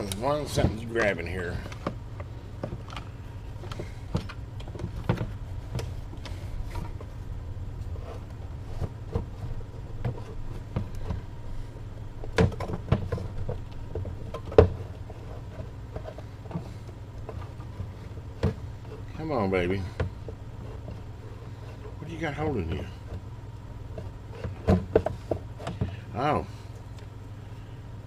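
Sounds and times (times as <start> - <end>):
radio chassis clicking and scraping: 0.0 - 26.1
steady low hum: 0.0 - 28.0.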